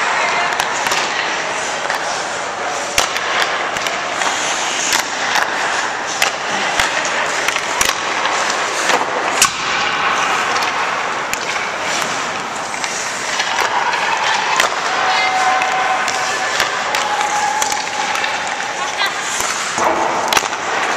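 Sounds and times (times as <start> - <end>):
pucks striking goalie pads: 0.0 - 20.9
skates scraping on ice: 0.0 - 20.9
sticks hitting pucks: 0.0 - 20.9.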